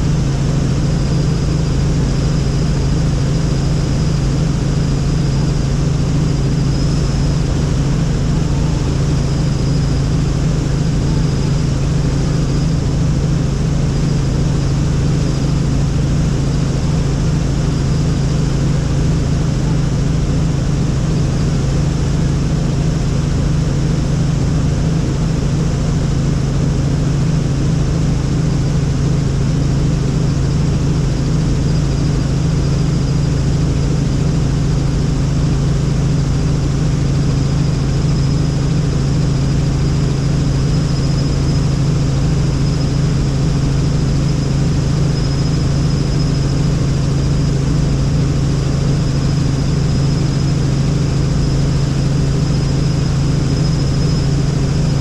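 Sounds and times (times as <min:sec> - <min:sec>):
faint high whine: 0:00.0 - 0:55.0
helicopter engine and rotor drone: 0:00.0 - 0:55.0.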